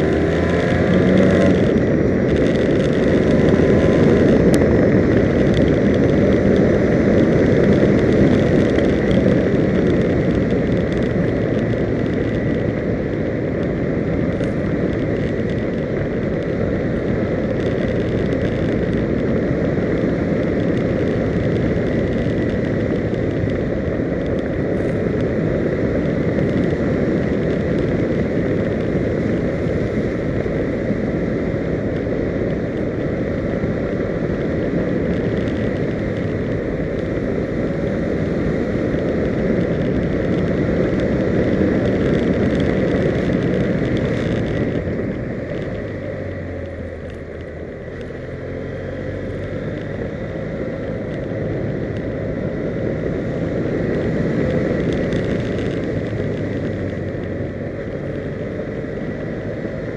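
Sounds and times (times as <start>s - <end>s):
engine low hum: 0.0s - 59.9s
wind rush on microphone: 0.0s - 59.9s.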